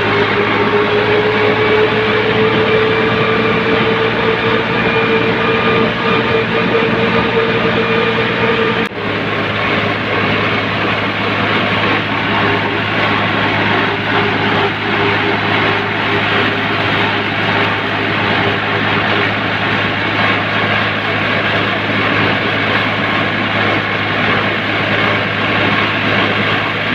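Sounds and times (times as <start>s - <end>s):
tractor engine running: 0.0s - 26.9s
wind and road noise: 0.0s - 26.9s.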